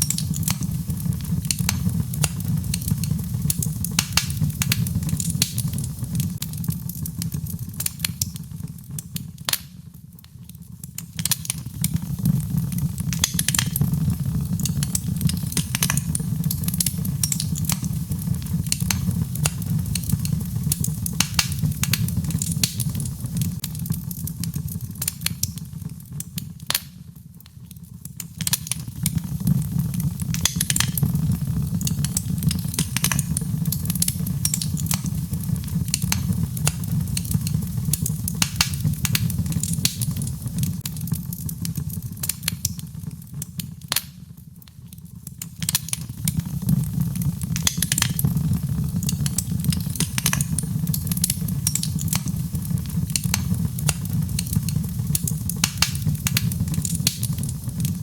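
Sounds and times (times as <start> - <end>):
fire crackling with sharp pops: 0.0 - 58.0
low rumble of flames: 0.0 - 58.0.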